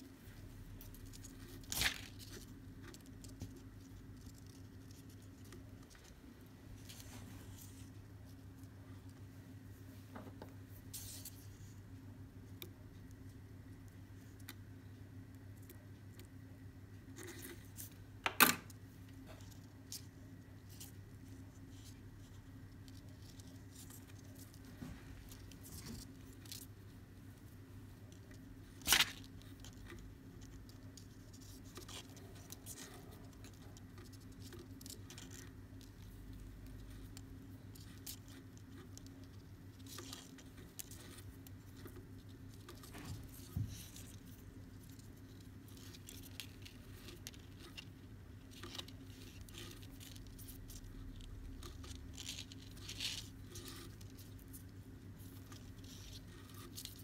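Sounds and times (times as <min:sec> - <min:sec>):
cord rustling while tying knots: 0:00.0 - 0:57.0.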